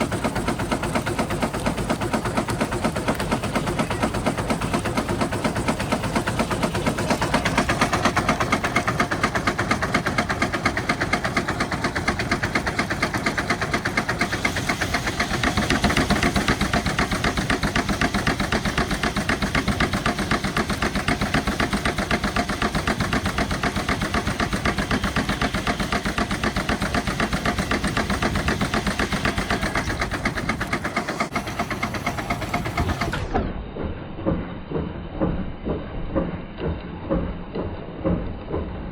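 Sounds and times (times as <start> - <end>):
steam engine thumping: 0.0 - 38.9.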